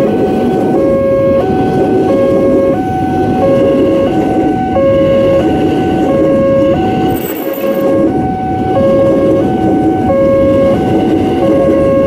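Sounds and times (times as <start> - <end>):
train rumbling past: 0.0 - 12.0
two-tone crossing alarm: 0.0 - 12.0.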